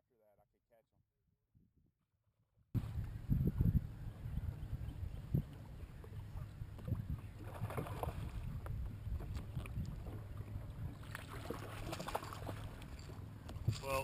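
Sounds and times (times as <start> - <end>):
wind and water rumble: 2.8 - 14.0.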